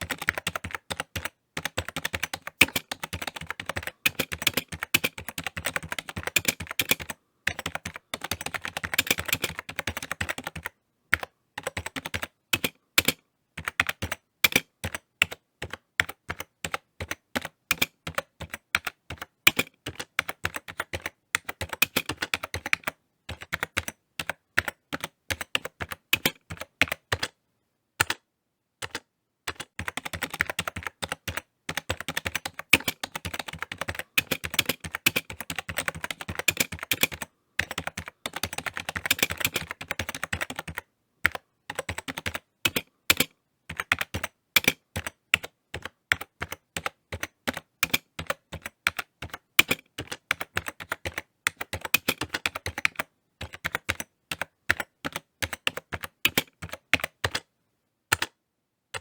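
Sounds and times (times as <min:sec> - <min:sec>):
computer keyboard typing: 0:00.0 - 0:27.4, 0:28.0 - 0:28.2, 0:28.8 - 0:57.5, 0:58.1 - 0:58.4.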